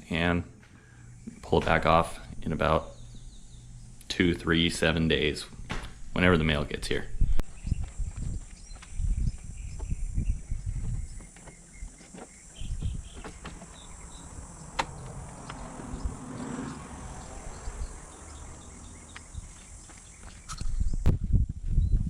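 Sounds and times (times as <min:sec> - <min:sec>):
insects chirping: 0:00.1 - 0:21.1.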